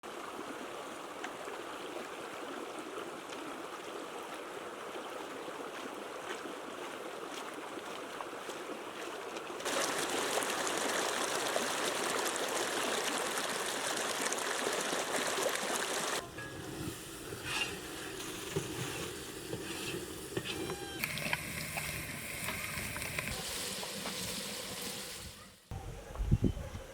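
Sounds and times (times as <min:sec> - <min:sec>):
flowing water rushing: 0:00.0 - 0:25.4.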